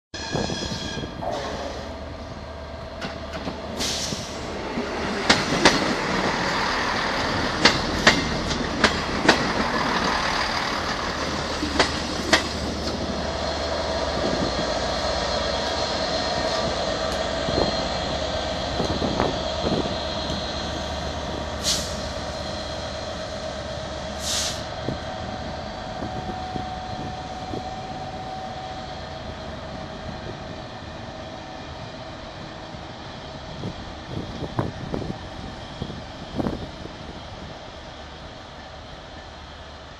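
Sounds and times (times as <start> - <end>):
diesel locomotive engine rumbling: 0.2 - 39.9.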